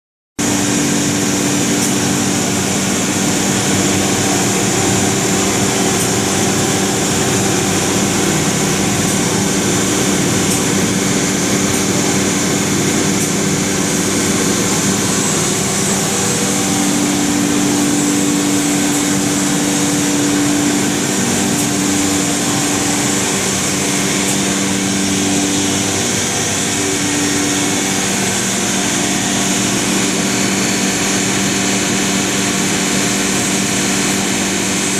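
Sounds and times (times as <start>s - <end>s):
cnc router high whine: 0.4s - 34.9s
machine low hum: 0.4s - 34.9s.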